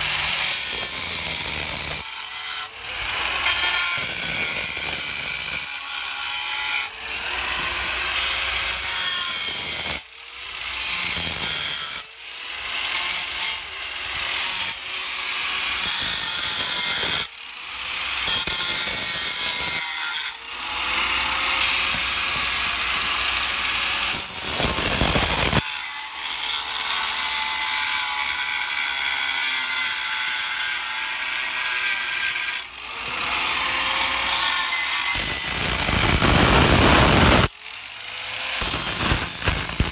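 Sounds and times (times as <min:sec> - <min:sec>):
angle grinder cutting stone: 0:00.0 - 0:39.9.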